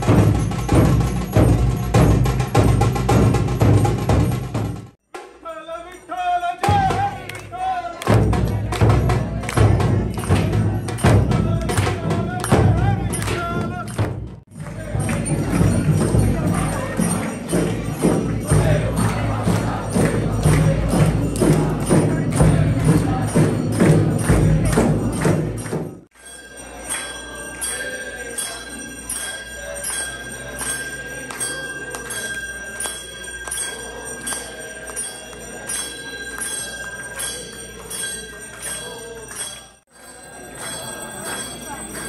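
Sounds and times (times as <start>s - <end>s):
temple bells ringing: 0.0s - 4.9s, 5.8s - 42.0s
crowd: 0.0s - 42.0s
jingling percussion: 0.0s - 42.0s
rhythmic clapping: 0.0s - 42.0s.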